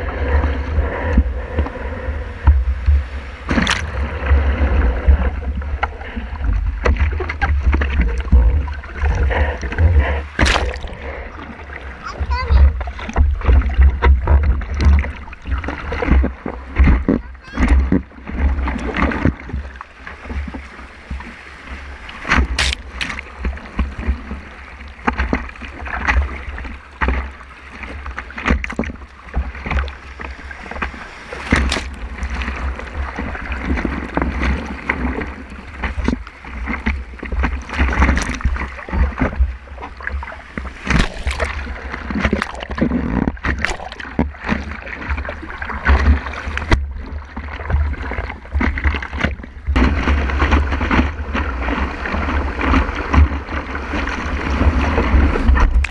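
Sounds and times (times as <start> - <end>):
ocean surf rushing: 0.0 - 55.9
water splashing against board: 0.0 - 55.9.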